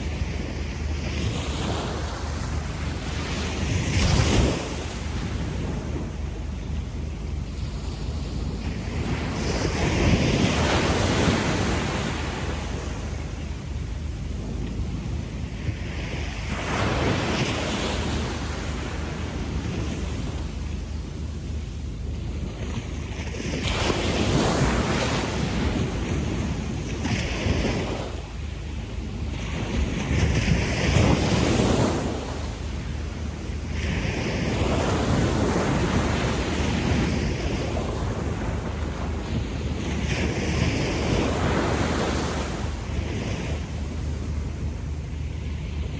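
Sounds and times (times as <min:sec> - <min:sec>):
sea waves washing on beach: 0:00.0 - 0:45.9.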